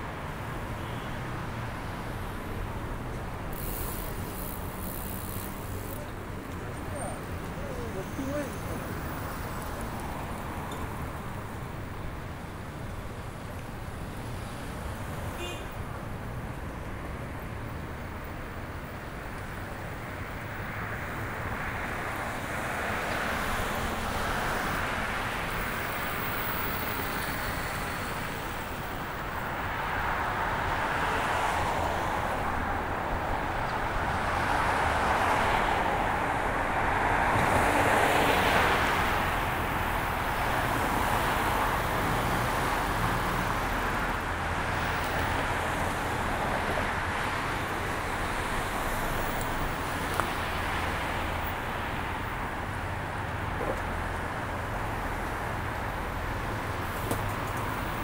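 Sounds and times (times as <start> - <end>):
cars passing on city road: 0.0 - 58.0.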